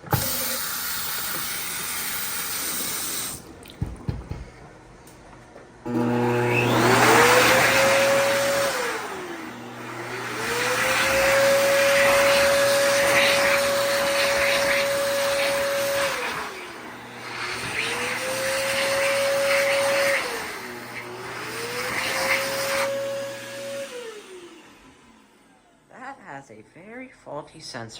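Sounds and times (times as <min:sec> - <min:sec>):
hand dryer motor whine: 0:00.0 - 0:03.5, 0:05.8 - 0:25.9.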